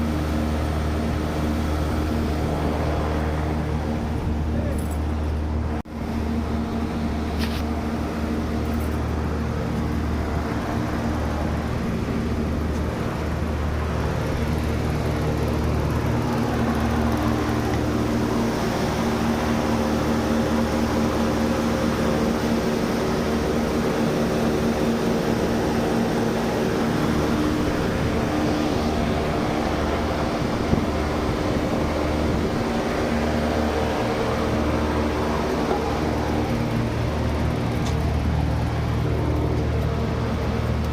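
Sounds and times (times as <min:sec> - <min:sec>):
air conditioning unit humming: 0:00.0 - 0:40.9.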